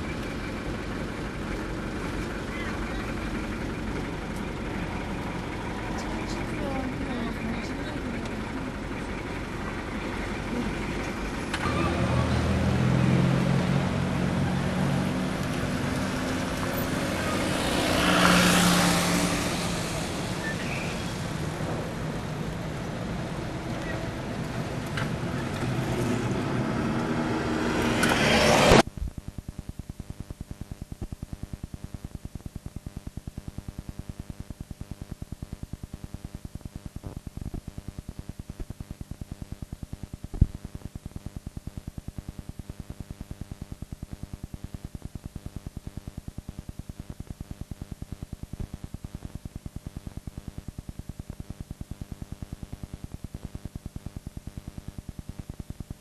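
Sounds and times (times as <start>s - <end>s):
loud noisy outdoor sound: 0.0s - 56.0s
pulsing buzz of blank videotape: 0.0s - 56.0s.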